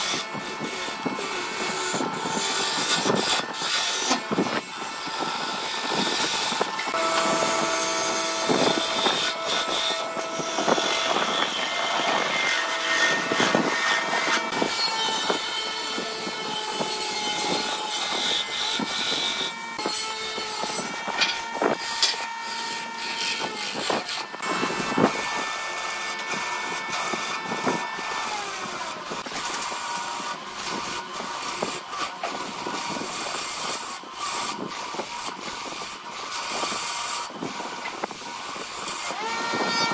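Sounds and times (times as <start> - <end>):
gouge scraping spinning wood: 0.0 - 39.9
wood lathe running: 0.0 - 39.9.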